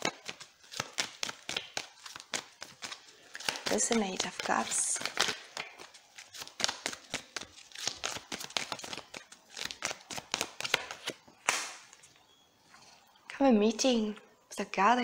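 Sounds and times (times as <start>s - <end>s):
cards being shuffled: 0.0s - 12.1s.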